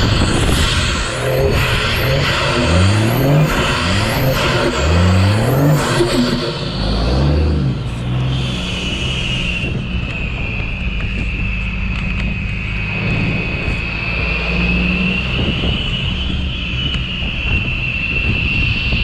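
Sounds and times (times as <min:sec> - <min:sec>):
diesel engine revving: 0:00.0 - 0:19.0
steady high whine: 0:00.0 - 0:19.0.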